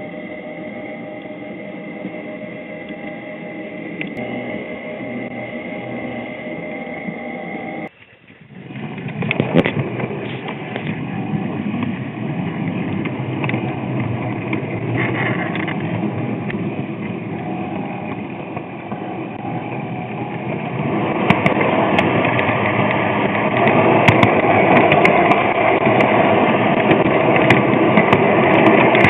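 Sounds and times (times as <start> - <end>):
track clicks: 0.0 - 7.9, 12.7 - 29.0
model train rolling on track: 0.0 - 29.0.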